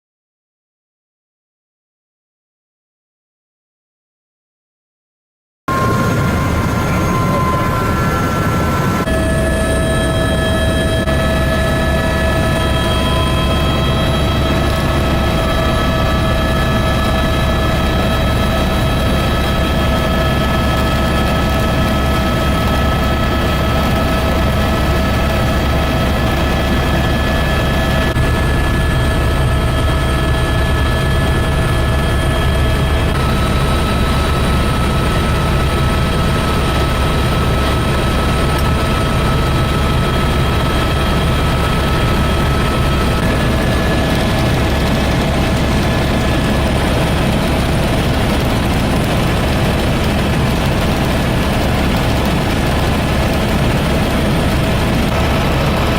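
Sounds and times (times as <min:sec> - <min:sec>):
helicopter rotor drone: 0:05.7 - 0:55.9
turbine whine: 0:05.7 - 0:55.9.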